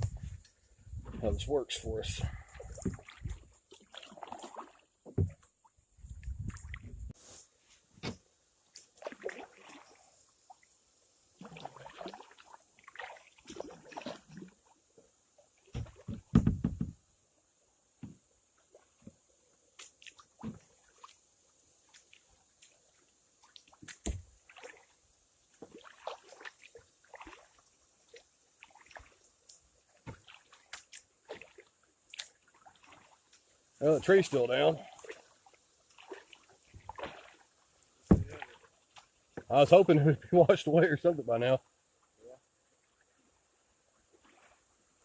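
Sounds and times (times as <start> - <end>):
kayak paddle splashing: 0.0 - 17.0, 18.0 - 40.8, 41.9 - 45.0.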